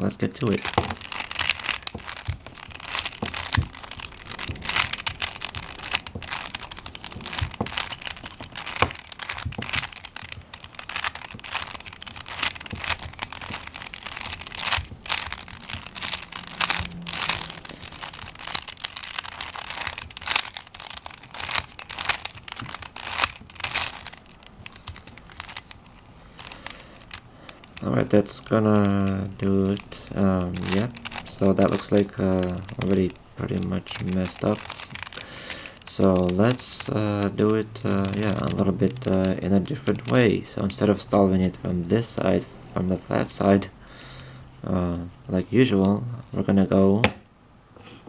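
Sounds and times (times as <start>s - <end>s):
puzzle cube clicking and rattling: 0.4s - 44.3s.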